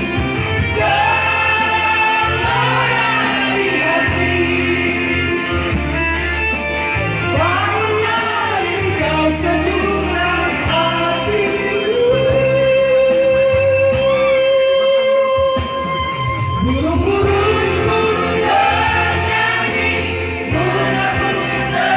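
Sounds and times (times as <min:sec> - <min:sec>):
instrumental accompaniment: 0:00.0 - 0:21.9
steady bass line: 0:00.0 - 0:21.9
person singing: 0:00.7 - 0:05.8, 0:07.3 - 0:21.9.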